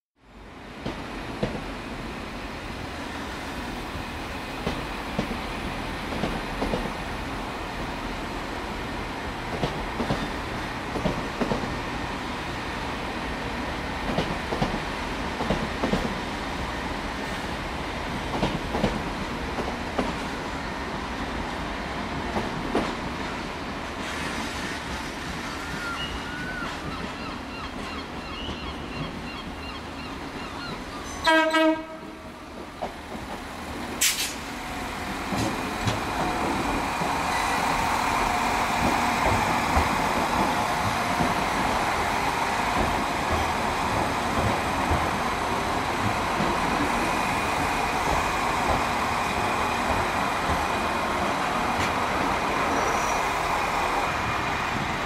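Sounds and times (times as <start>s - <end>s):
railcar running rumble: 0.3s - 55.0s.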